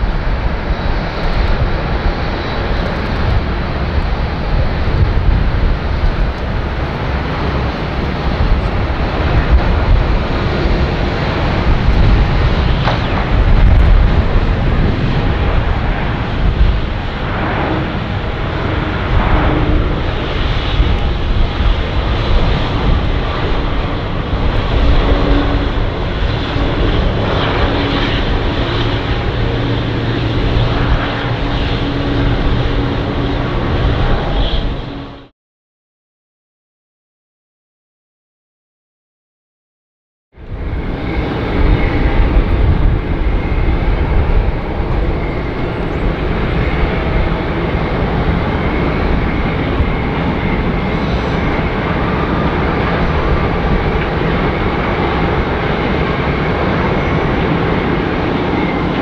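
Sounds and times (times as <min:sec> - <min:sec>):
jet engines rushing and rumbling: 0:00.0 - 0:35.3, 0:40.4 - 0:59.0.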